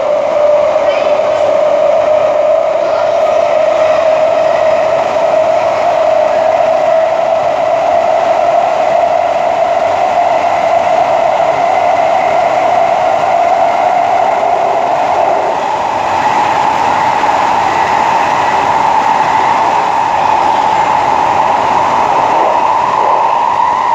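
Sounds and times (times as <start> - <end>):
train traction motor whine: 0.0 - 23.9
wheel-on-rail noise: 0.0 - 23.9.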